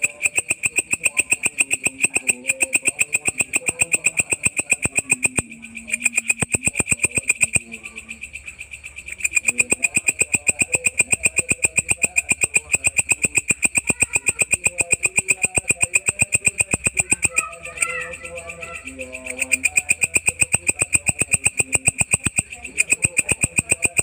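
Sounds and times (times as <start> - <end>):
insect stridulating shrill clicks: 0.0 - 24.0.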